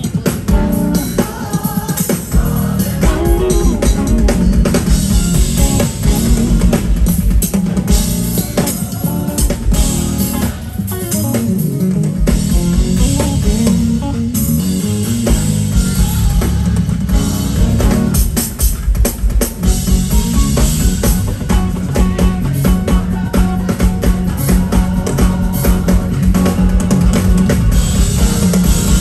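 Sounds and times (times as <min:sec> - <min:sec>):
bass guitar: 0:00.0 - 0:29.0
drum kit: 0:00.0 - 0:29.0
electric guitar: 0:00.0 - 0:29.0
live band playing gospel groove: 0:00.0 - 0:29.0.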